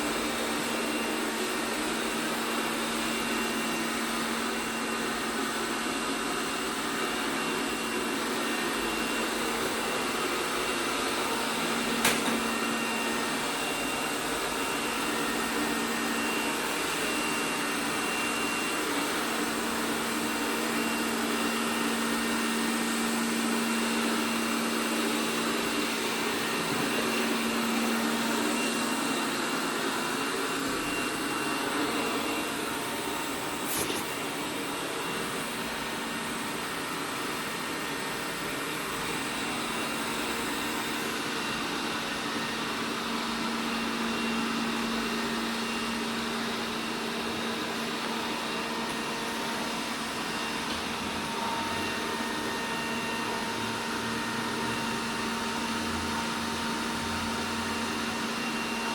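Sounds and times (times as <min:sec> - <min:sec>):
robot vacuum whirring: 0:00.0 - 0:58.9.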